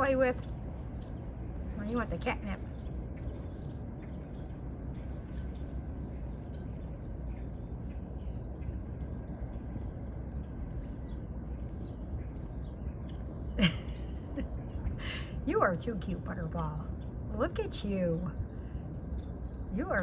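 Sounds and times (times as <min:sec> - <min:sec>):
low background rumble: 0:00.0 - 0:20.0
small birds chirping: 0:00.0 - 0:20.0.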